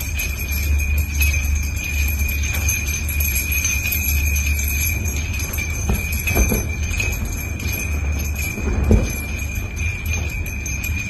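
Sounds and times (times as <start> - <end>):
chandelier crystals clinking: 0.0 - 11.0.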